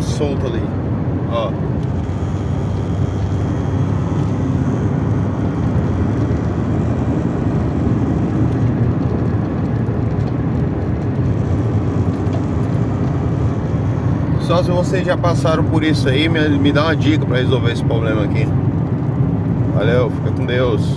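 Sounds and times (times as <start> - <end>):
car engine and road noise: 0.0 - 20.9.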